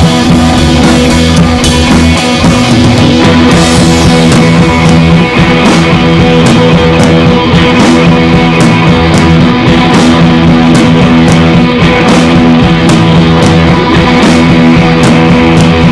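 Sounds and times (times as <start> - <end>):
guitar-led rock music: 0.0 - 15.9.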